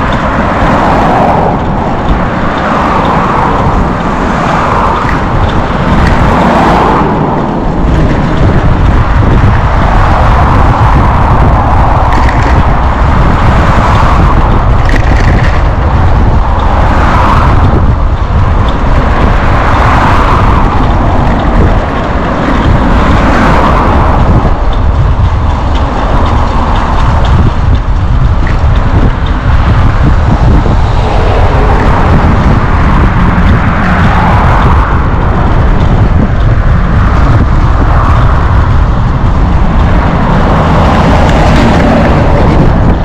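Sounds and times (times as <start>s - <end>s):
road noise: 0.0s - 43.0s
wind rumble on microphone: 0.0s - 43.0s.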